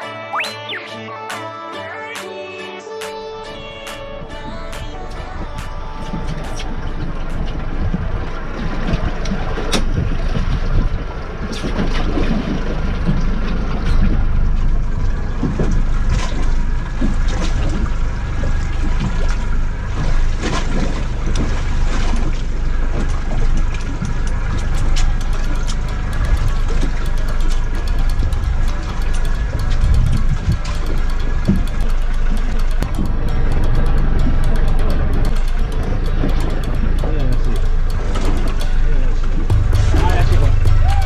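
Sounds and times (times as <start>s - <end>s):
motorboat engine rumble: 3.2s - 41.0s
water noise: 3.4s - 41.0s.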